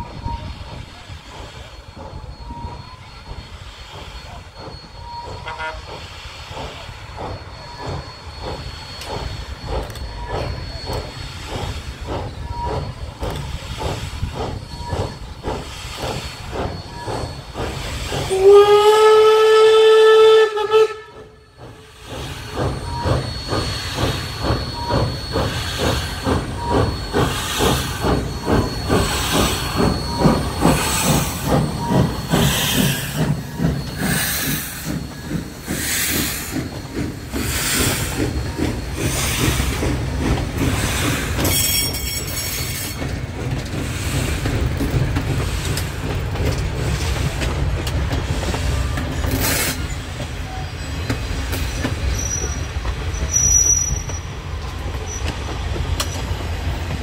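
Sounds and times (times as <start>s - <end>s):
steam hissing: 0.0s - 57.0s
steam locomotive chuffing: 0.0s - 57.0s
wheel squeal: 0.0s - 57.0s.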